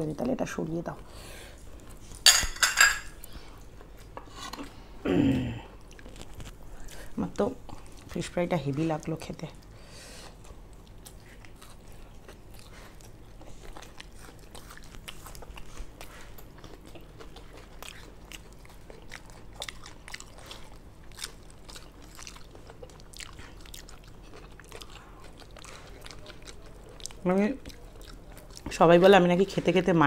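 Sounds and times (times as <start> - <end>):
people chewing crunchy food: 3.2 - 30.0.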